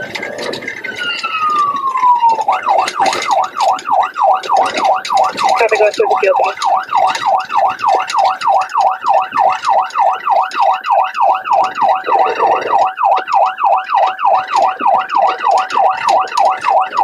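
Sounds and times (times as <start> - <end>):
police siren fast yelp: 0.1 - 17.0.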